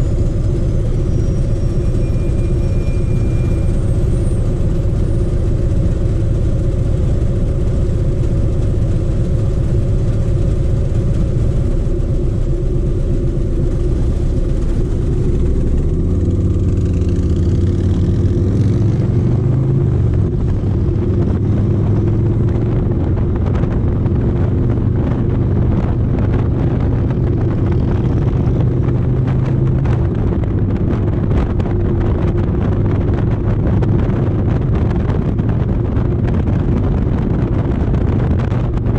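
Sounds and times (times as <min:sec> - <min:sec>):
motorcycle engine idling and revving: 0:00.0 - 0:38.9
wind noise on microphone: 0:00.0 - 0:38.9.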